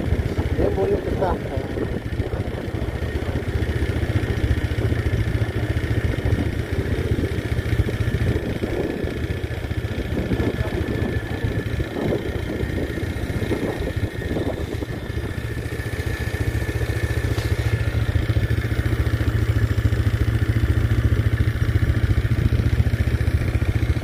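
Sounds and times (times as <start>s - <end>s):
quad engine running: 0.0s - 24.0s
clatter: 3.4s - 24.0s.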